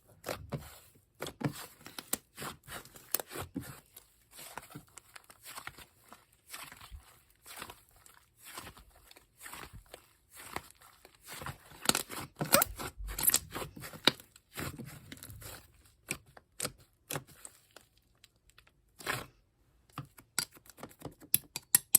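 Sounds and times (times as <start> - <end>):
slime squishing crackles: 0.2 - 19.3.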